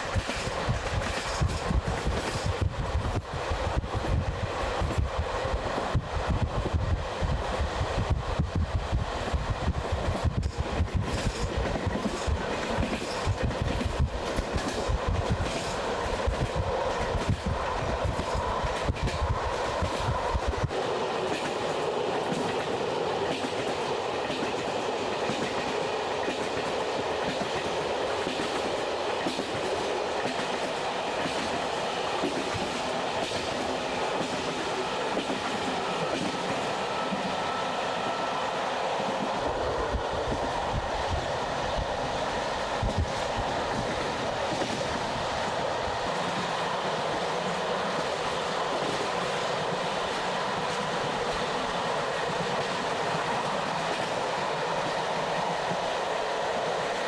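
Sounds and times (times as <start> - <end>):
train rushing along track: 0.0 - 57.0.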